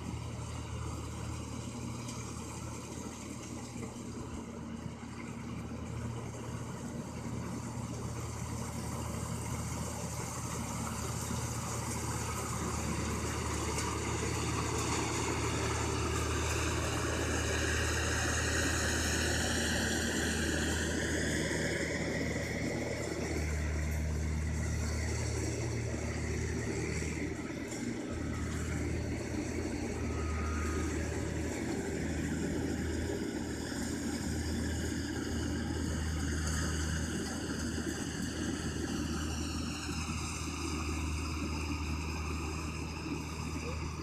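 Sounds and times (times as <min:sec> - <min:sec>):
combine harvester engine running: 0:00.0 - 0:44.0
high mechanical whine: 0:00.0 - 0:44.0.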